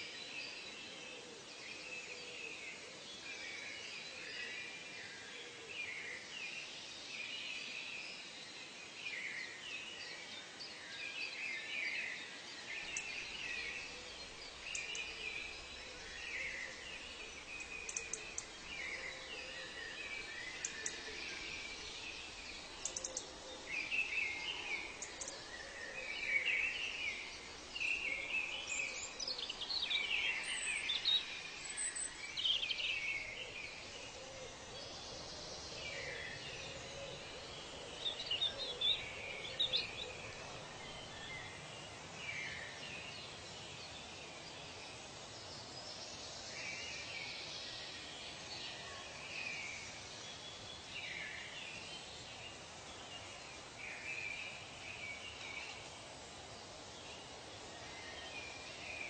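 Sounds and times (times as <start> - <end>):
steady background hiss: 0.0 - 59.0
wild birds chirping and trilling: 0.0 - 59.0.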